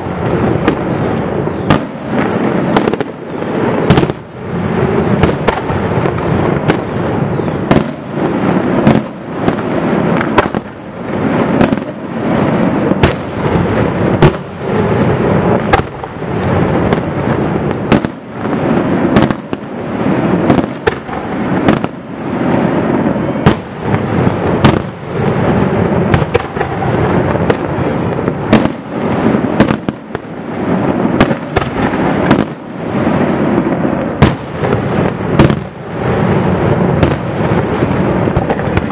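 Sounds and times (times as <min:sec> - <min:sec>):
rumble and crackle: 0:00.0 - 0:03.2, 0:03.9 - 0:32.5, 0:33.1 - 0:38.9.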